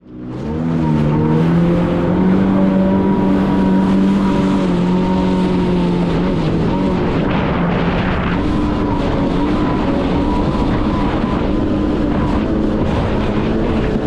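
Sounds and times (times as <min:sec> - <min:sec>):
broad rushing noise: 0:00.0 - 0:14.0
personal watercraft engine running: 0:00.0 - 0:14.0.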